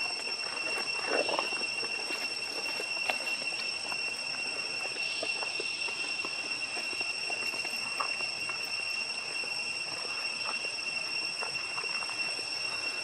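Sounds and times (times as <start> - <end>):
high-pitched insect drone: 0.0 - 13.0
rustles of dry grass and leaves: 0.0 - 13.0.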